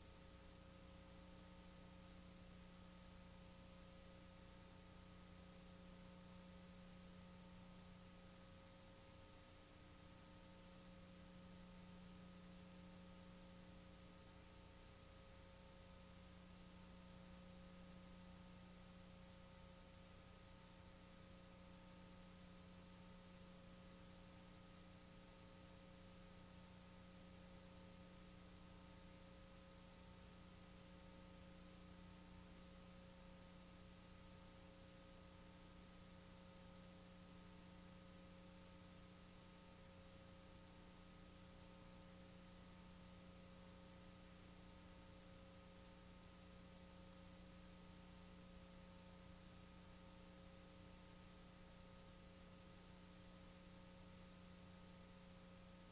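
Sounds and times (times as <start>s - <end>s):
constant hiss: 0.0s - 55.9s
faint electrical hum: 0.0s - 55.9s.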